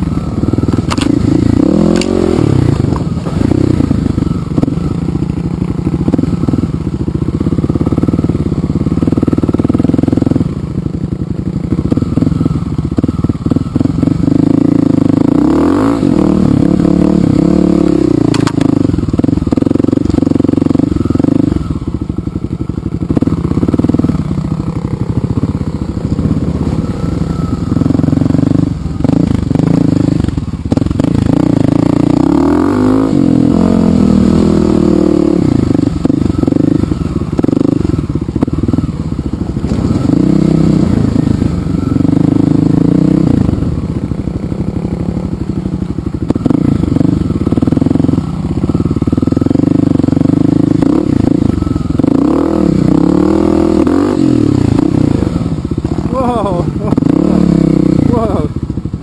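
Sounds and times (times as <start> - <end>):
dirt bike engine revving: 0.0 - 22.2, 22.9 - 59.0.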